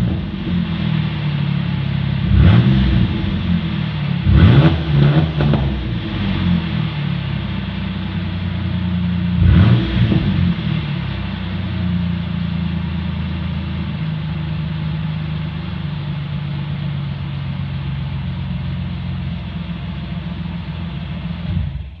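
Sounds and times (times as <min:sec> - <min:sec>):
unmuffled engine idling: 0:00.0 - 0:22.0.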